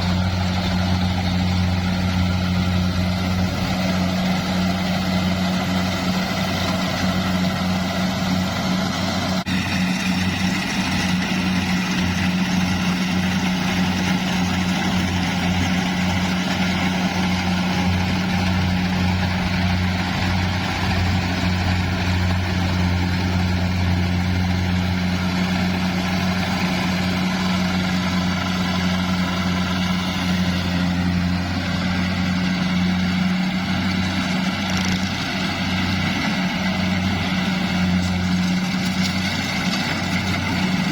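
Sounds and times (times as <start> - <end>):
harvesting machine engine running: 0.0 - 40.9.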